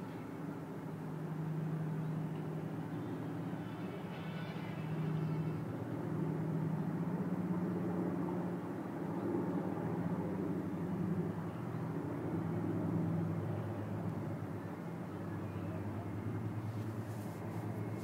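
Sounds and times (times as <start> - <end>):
propeller aircraft droning: 0.0 - 18.0.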